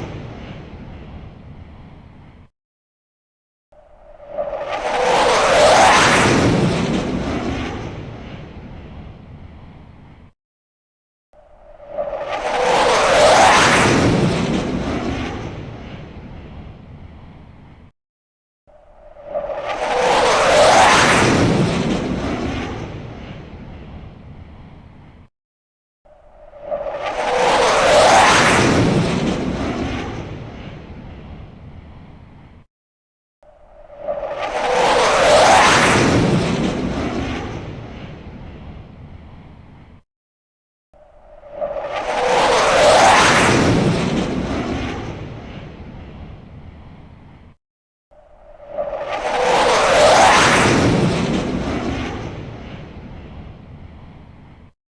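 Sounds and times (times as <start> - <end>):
fighter jet roaring past: 0.0 - 2.2, 3.8 - 10.1, 11.4 - 17.8, 18.7 - 24.9, 26.1 - 32.2, 33.4 - 39.6, 41.0 - 47.4, 48.2 - 54.5.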